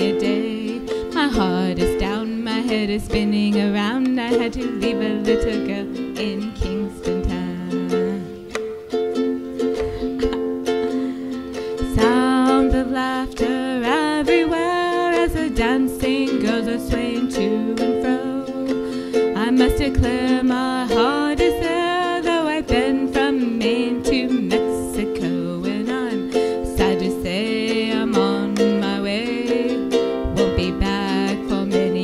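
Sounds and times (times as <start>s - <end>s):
woman singing: 0.0s - 8.6s, 9.7s - 32.0s
ukulele strumming chords: 0.0s - 32.0s.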